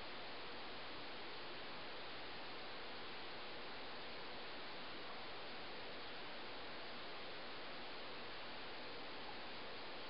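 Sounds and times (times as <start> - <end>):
ceiling fan air hiss: 0.0 - 10.0.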